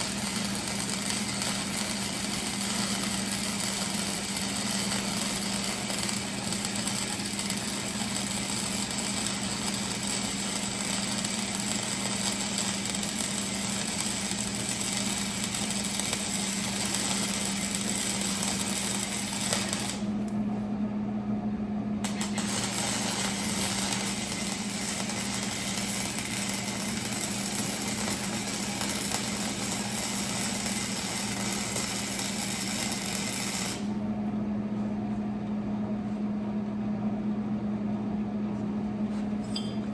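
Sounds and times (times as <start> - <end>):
welding arc crackling: 0.0 - 20.4, 22.0 - 34.0
welder humming: 0.0 - 20.6, 22.0 - 34.1.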